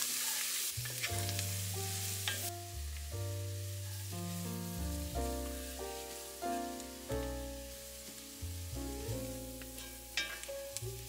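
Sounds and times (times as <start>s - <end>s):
onions sizzling in hot oil: 0.0s - 11.0s
background music: 1.1s - 11.0s.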